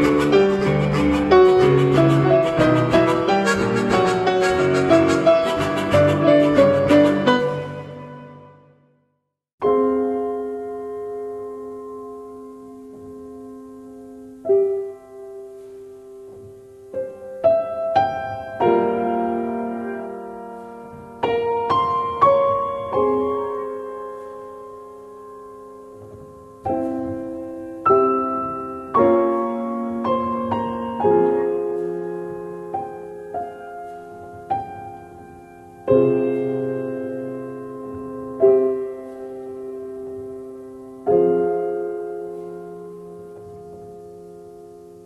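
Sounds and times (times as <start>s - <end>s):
gentle piano music: 0.0s - 9.0s, 9.6s - 45.0s.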